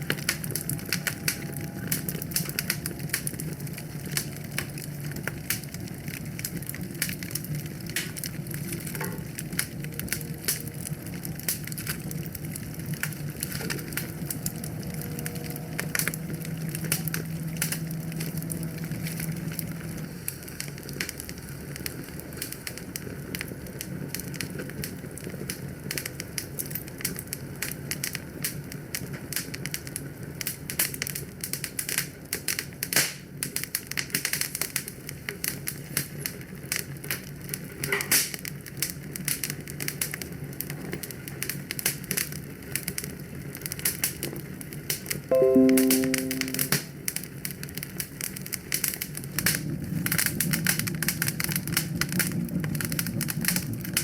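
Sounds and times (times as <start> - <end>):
wood fire crackling and popping: 0.0 - 46.4, 47.4 - 54.0.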